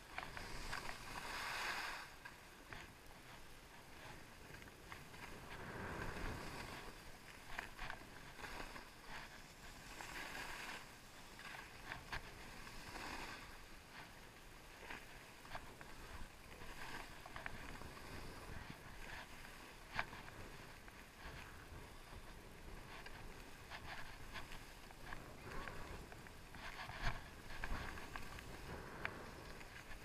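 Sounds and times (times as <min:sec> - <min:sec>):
skis scraping over snow: 0:00.1 - 0:30.0.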